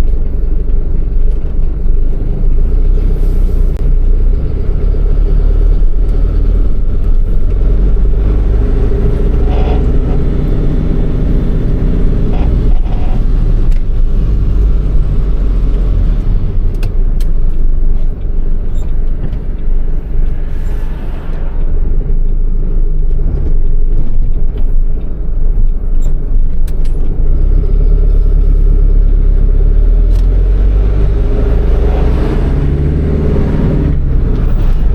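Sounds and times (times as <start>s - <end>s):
diesel truck engine rumble: 0.0s - 34.9s.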